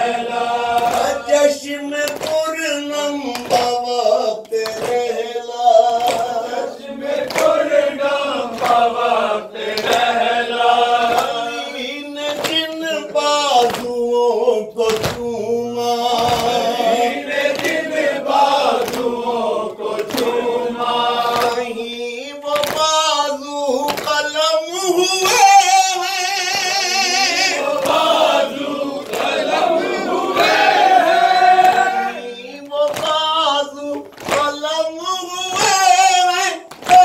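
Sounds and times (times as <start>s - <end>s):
men chanting together: 0.0s - 37.0s.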